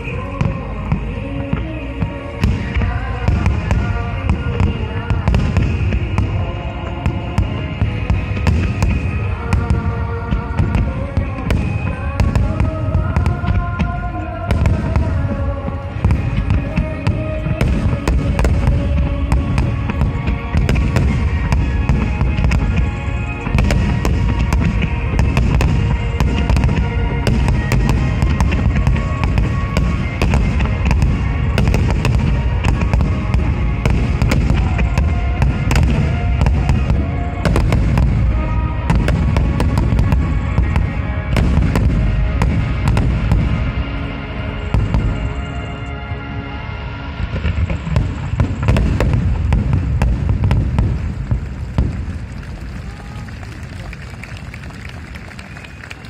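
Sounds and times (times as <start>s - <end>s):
fireworks bursting: 0.0s - 45.6s, 47.2s - 53.9s
music playing: 0.0s - 56.0s.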